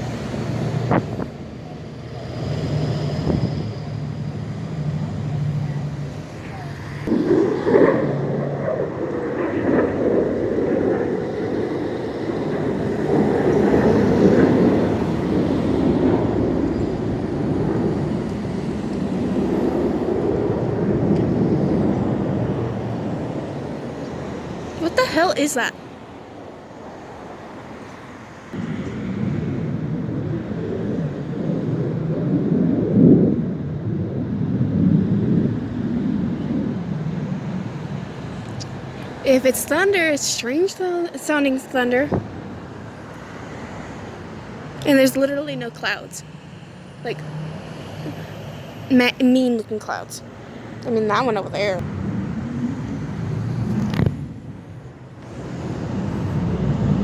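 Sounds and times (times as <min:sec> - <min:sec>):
low rumbling from the sky: 0:00.0 - 0:57.0.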